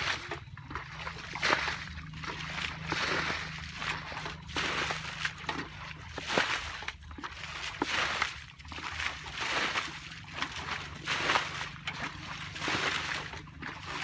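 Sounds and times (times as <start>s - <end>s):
low hum: 0.0s - 14.0s
water scooping and splashing: 0.0s - 14.0s.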